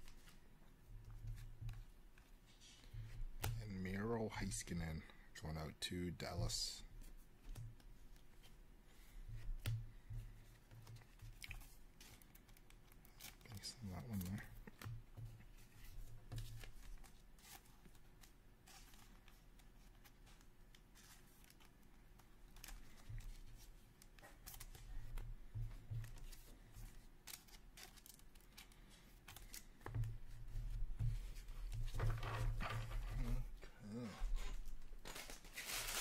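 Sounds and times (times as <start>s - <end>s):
plastic sleeves rustling: 0.0s - 4.5s, 6.9s - 36.0s.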